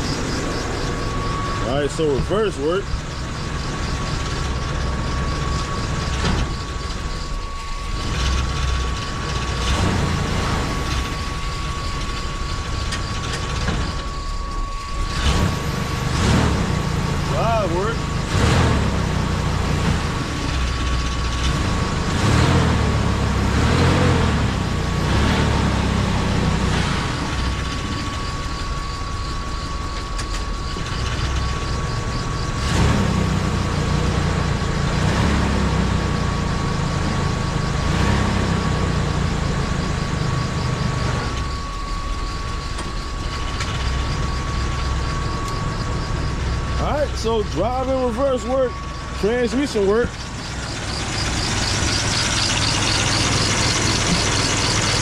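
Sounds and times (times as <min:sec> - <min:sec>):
steady high whine: 0:00.0 - 0:55.0
truck engine idling: 0:00.0 - 0:55.0.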